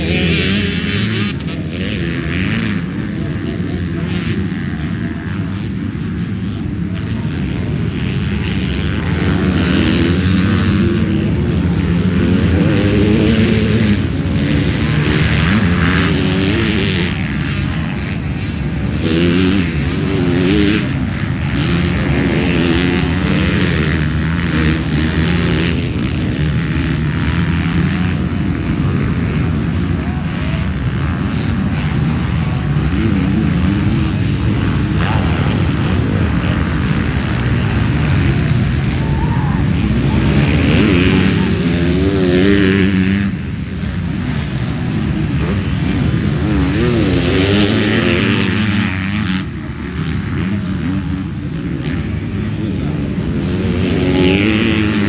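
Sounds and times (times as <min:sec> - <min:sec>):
motocross bikes revving: 0:00.0 - 0:55.0.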